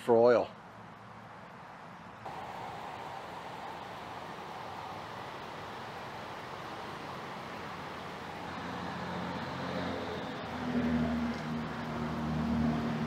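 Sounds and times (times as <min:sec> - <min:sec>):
traffic noise: 0:00.2 - 0:13.0
vehicle engine hum: 0:00.6 - 0:13.0.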